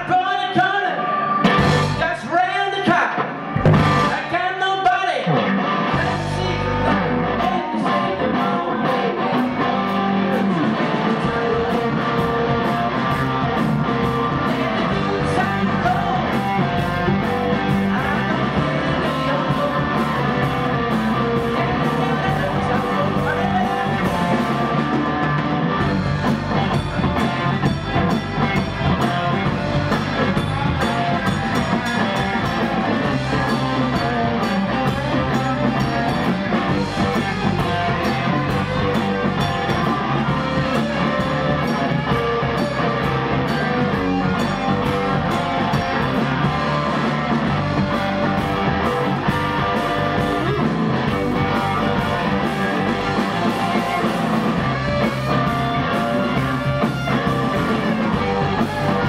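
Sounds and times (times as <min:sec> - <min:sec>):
electric guitars: 0:00.0 - 0:04.4, 0:05.2 - 0:59.0
bass guitar: 0:00.0 - 0:59.0
drum kit beat: 0:01.4 - 0:02.2, 0:03.4 - 0:04.4, 0:09.4 - 0:59.0.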